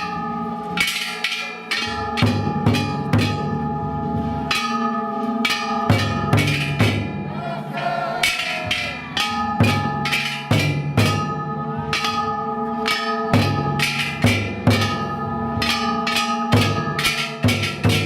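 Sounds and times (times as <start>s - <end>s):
hand gongs ringing: 0.0s - 18.0s
large taiko drum beating: 0.0s - 18.0s.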